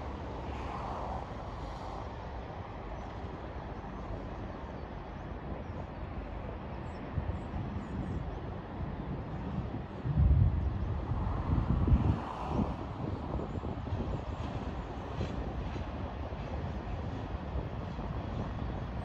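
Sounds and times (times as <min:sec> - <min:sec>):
distant freight train rumble: 0:00.0 - 0:19.0.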